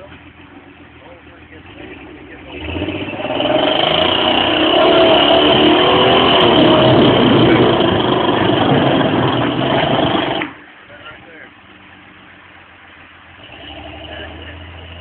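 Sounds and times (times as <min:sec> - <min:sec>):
buggy engine revving hard: 0:00.0 - 0:10.6, 0:13.3 - 0:15.0.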